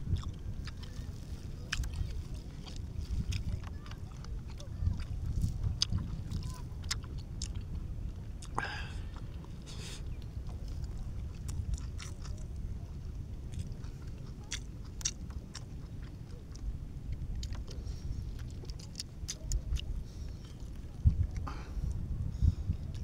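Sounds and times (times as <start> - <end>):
person chewing food: 0.0 - 22.0, 22.7 - 23.0
steady low rumble: 0.0 - 23.0.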